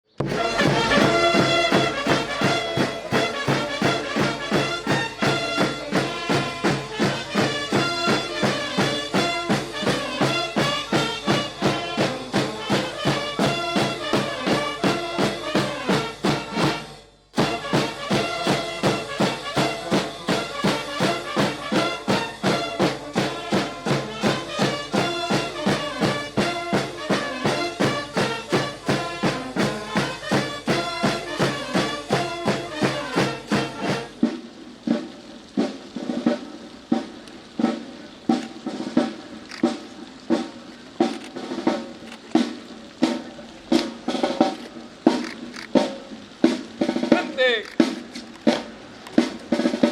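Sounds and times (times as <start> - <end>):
brass band march: 0.1 - 49.9.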